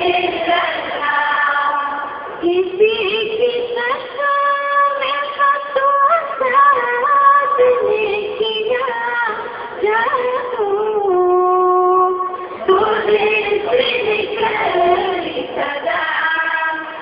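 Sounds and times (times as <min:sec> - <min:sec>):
women singing devotional song: 0:00.0 - 0:17.0.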